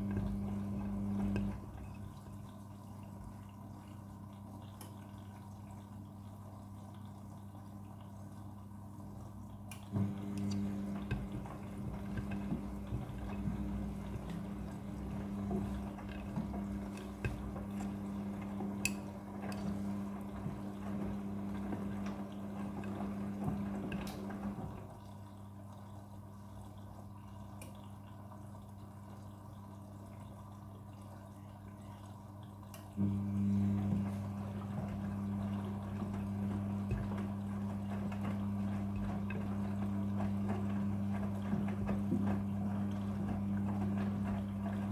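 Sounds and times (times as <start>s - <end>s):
washing machine motor hum: 0.0s - 44.9s
water sloshing in washing machine: 0.0s - 44.9s.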